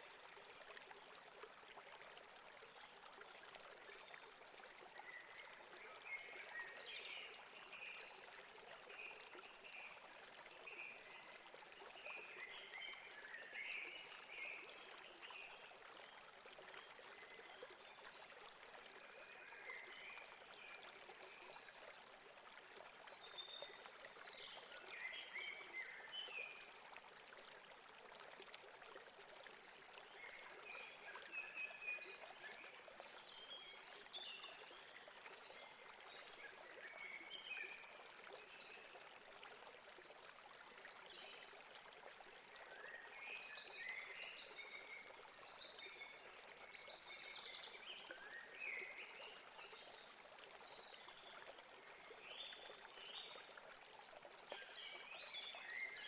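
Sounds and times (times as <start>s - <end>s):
faint stream over rocks: 0.0s - 56.0s.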